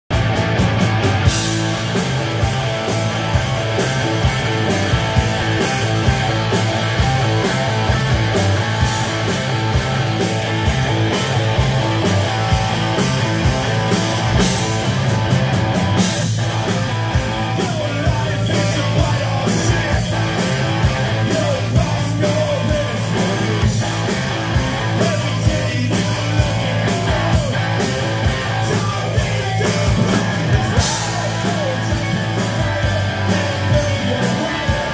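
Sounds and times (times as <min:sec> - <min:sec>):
bass guitar: 0:00.0 - 0:34.9
electric guitar: 0:00.0 - 0:34.9
drums beating: 0:00.1 - 0:34.9.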